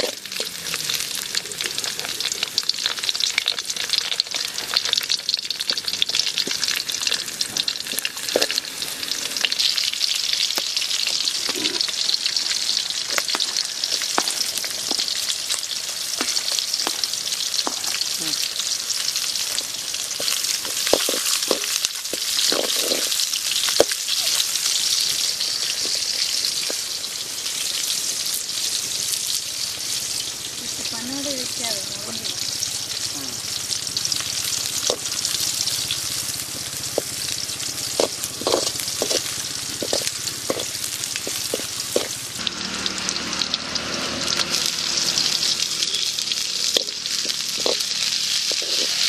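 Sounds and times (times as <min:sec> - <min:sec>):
chillies and onion sizzling in oil: 0:00.0 - 0:49.0.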